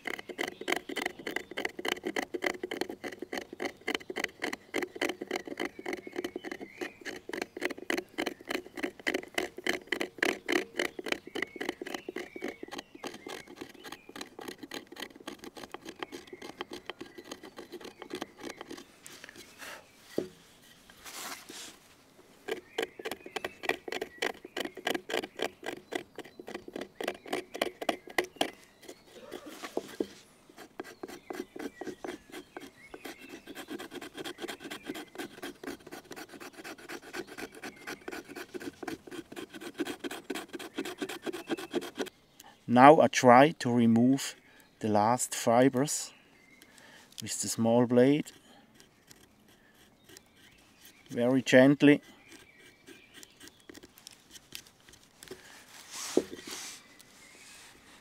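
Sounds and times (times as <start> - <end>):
knife hook scratching wood: 0.0 - 21.8, 22.4 - 42.1, 47.2 - 57.1.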